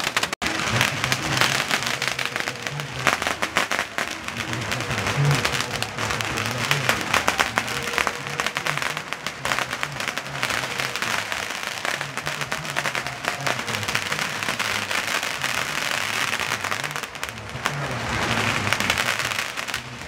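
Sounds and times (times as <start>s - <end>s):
firecrackers crackling: 0.0s - 20.0s
low repeating beat: 0.4s - 20.0s.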